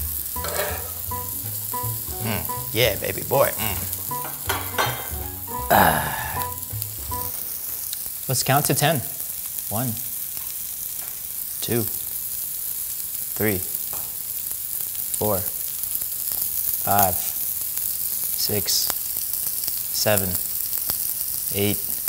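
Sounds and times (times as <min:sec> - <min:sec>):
food sizzling on griddle: 0:00.0 - 0:22.0.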